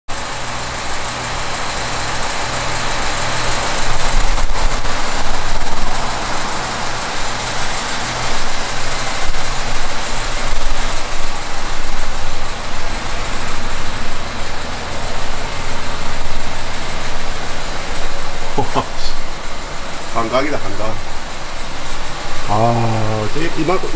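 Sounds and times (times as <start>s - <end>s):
loud even hiss: 0.1s - 23.9s
vehicle engine running: 0.1s - 23.9s
low hum: 0.2s - 23.9s.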